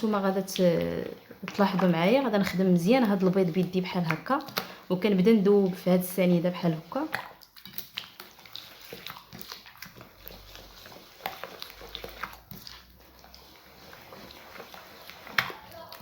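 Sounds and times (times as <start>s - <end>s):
hand beating eggs in a bowl: 0.0s - 16.0s.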